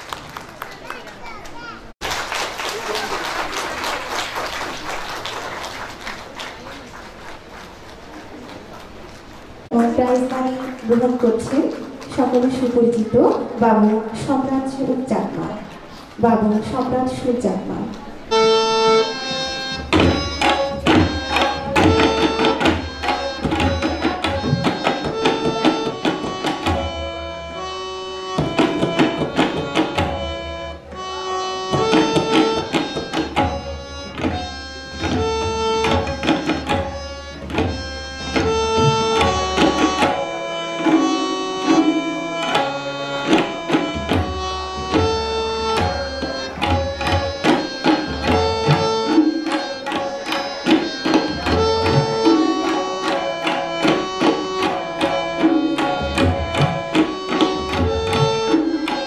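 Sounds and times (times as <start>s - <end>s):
tabla ensemble playing: 0.0s - 59.0s.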